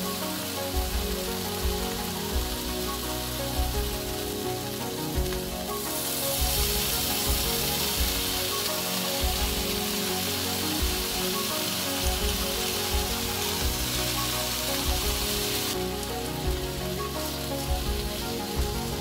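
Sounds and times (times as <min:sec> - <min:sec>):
music with bass beat: 0:00.0 - 0:19.0.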